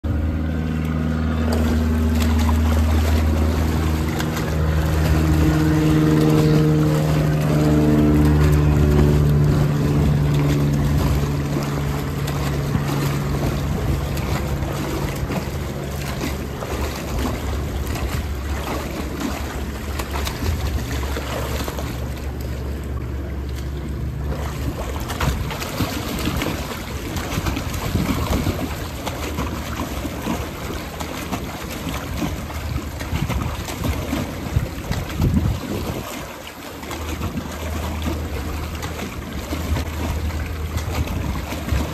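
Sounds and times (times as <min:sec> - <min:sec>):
steady low drone: 0:00.0 - 0:36.0
water splashing from swimming: 0:00.0 - 0:41.9.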